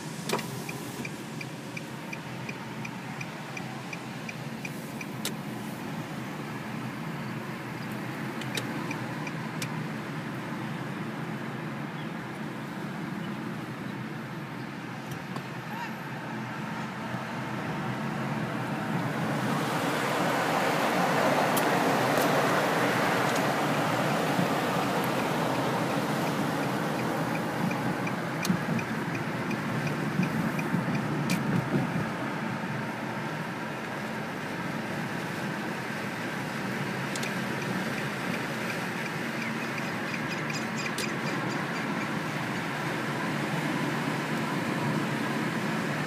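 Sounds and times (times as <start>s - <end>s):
car road and engine noise: 0.0s - 46.0s.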